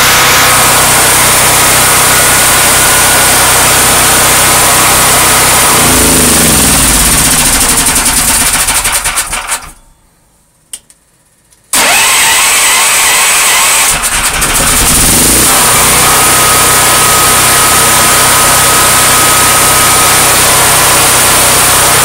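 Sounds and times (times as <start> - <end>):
generator engine running: 0.0 - 9.9, 11.7 - 22.0.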